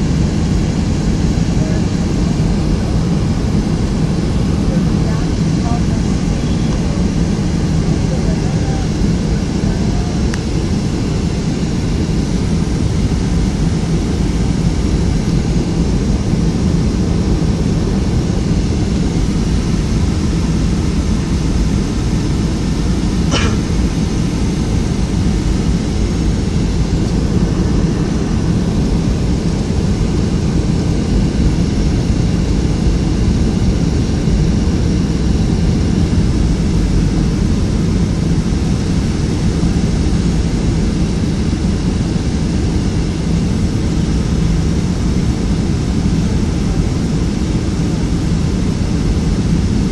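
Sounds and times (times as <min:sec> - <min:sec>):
airliner cabin engine rush: 0:00.0 - 0:49.9.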